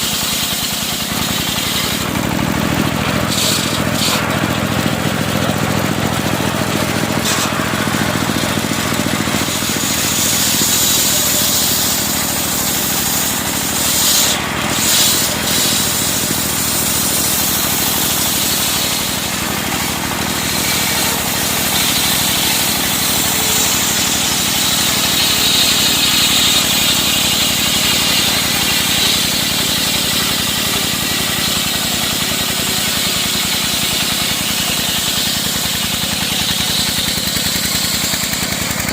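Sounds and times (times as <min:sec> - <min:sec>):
saw blade cutting timber: 0:00.0 - 0:38.9
sawmill engine running: 0:00.0 - 0:38.9.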